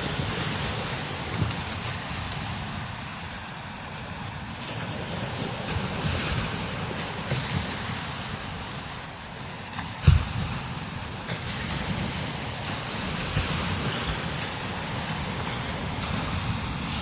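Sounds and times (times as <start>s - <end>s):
strong wind gusting: 0.0s - 17.0s
wind buffeting microphone: 0.0s - 17.0s.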